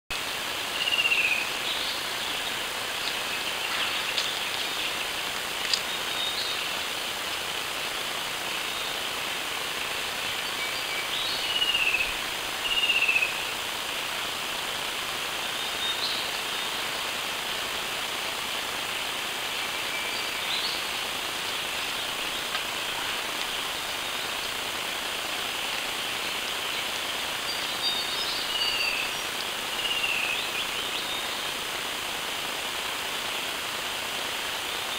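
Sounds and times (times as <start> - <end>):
steady hiss: 0.1 - 34.9.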